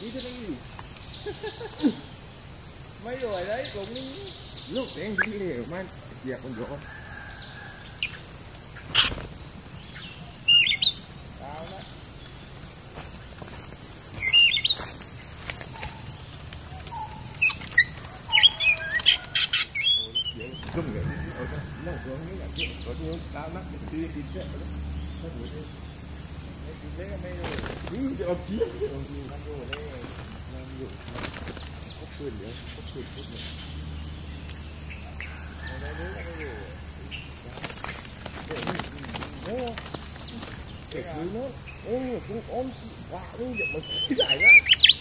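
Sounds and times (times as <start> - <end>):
birds chirping: 0.0 - 45.0
high insect drone: 0.0 - 45.0.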